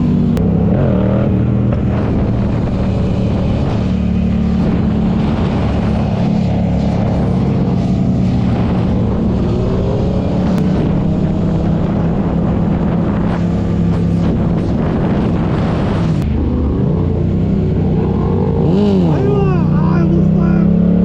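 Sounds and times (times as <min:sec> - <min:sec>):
motorcycle engine running loudly: 0:00.0 - 0:21.0.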